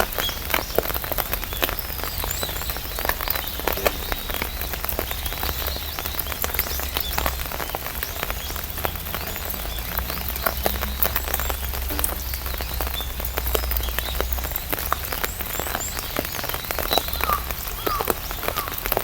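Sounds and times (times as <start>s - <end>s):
rain drops tapping on umbrella: 0.0s - 19.0s
steady hiss of rain: 0.0s - 19.0s.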